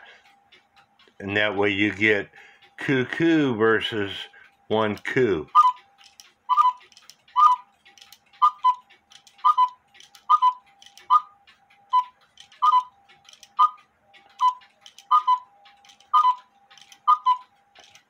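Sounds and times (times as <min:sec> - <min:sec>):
clock mechanism clicking: 0:00.0 - 0:18.0
cuckoo clock calls: 0:02.9 - 0:18.0.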